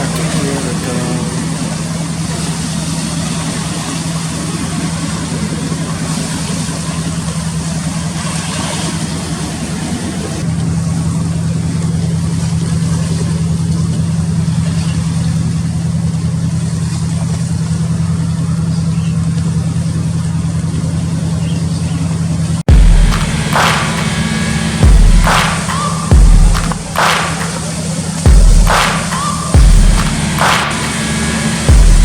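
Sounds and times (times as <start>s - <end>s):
large engine humming: 0.0s - 32.0s.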